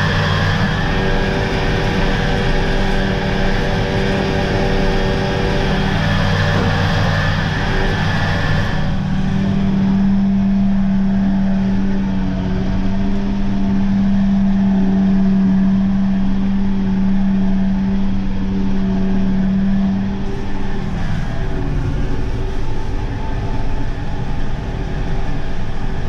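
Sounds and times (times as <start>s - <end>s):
tractor engine drone: 0.0s - 26.0s.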